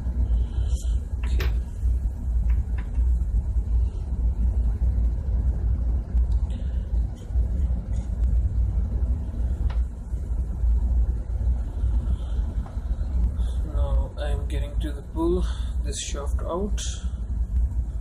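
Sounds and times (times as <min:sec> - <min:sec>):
engine room machinery rumble: 0:00.0 - 0:18.0.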